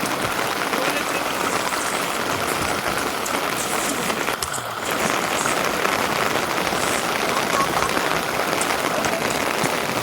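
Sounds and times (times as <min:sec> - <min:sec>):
rain patter: 0:00.0 - 0:10.0.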